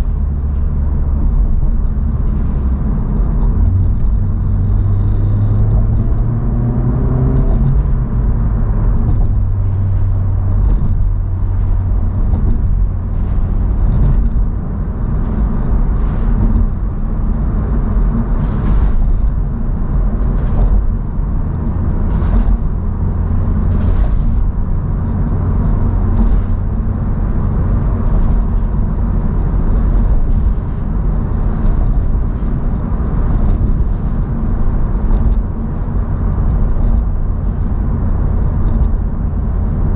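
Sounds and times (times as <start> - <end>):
car engine hum: 0.0 - 39.9
road noise: 0.0 - 39.9.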